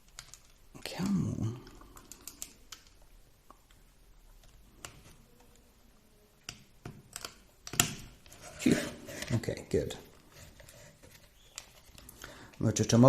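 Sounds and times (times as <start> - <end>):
plastic parts clicking and tapping: 0.0 - 5.7, 6.4 - 12.6.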